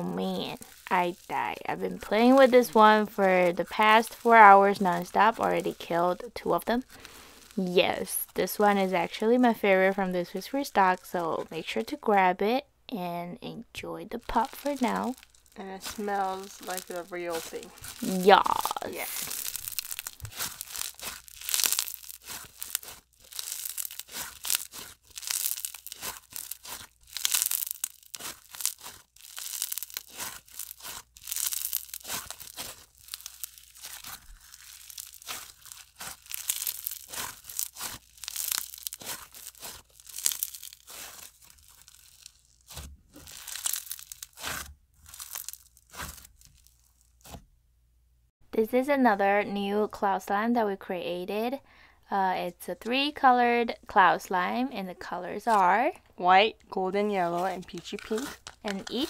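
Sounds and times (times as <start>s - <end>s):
slime crackling and popping: 0.0s - 12.3s, 14.0s - 47.4s, 55.4s - 59.0s.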